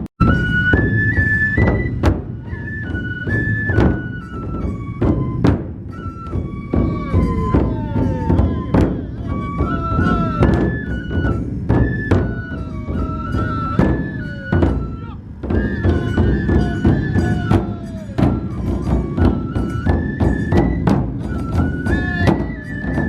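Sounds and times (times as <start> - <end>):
bamboo flute melody: 0.0 - 23.0
large drums beating: 0.0 - 23.0.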